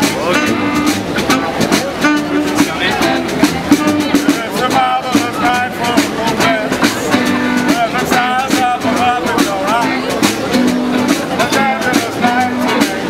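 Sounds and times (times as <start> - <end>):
street band playing: 0.0 - 13.0.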